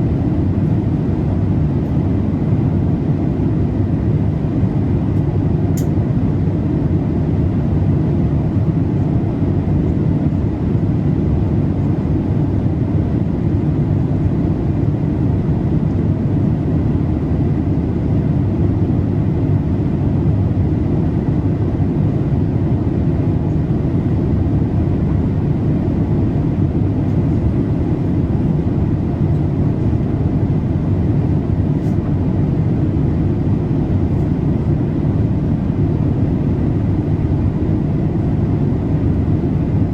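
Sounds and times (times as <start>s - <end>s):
airplane cabin hum: 0.0s - 39.9s.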